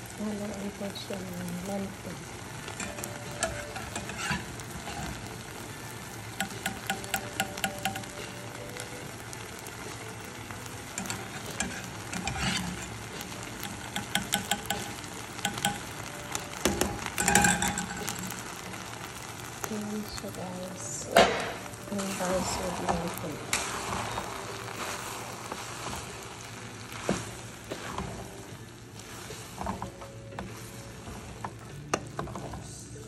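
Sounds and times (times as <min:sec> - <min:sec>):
rice and onion sizzling in pot: 0:00.0 - 0:33.0.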